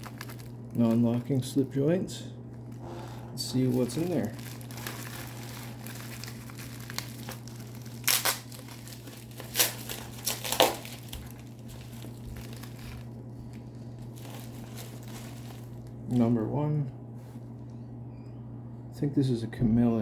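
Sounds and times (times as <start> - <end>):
bag crinkling and rustling: 0.0 - 16.4
steady low hum: 0.0 - 20.0.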